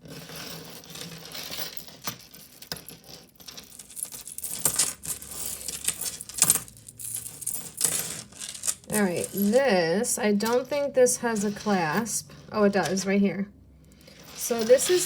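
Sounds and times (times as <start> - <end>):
metal jewelry clinking: 0.1 - 13.1, 13.9 - 15.0.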